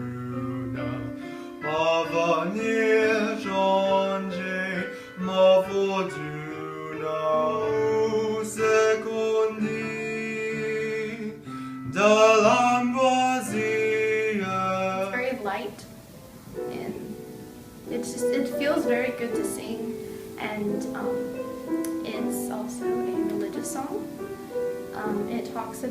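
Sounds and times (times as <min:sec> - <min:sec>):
person singing classical song: 0:00.0 - 0:25.9
piano accompaniment: 0:00.0 - 0:25.9.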